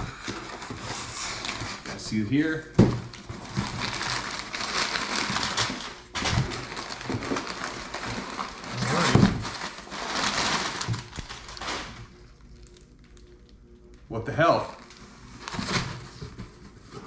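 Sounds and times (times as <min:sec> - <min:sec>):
packing paper crumpling: 0:00.0 - 0:17.0.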